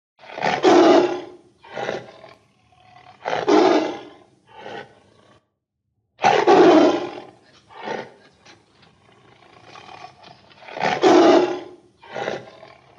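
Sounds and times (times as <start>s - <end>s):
tiger roaring: 0.2s - 5.5s, 6.2s - 12.9s.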